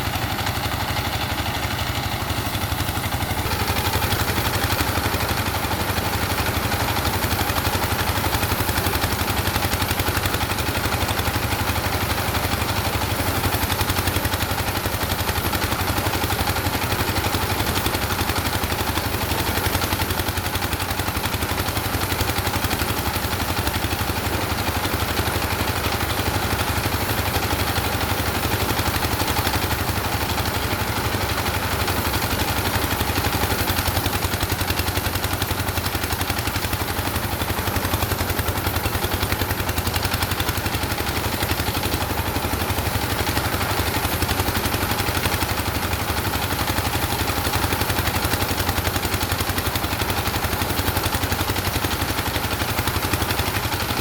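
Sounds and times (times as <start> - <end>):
engine running with pulsing beat: 0.0 - 54.0.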